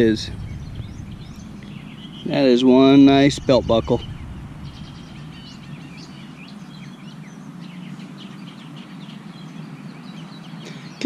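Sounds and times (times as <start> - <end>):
low background hum: 0.0 - 11.0
small birds chirping: 0.0 - 11.0.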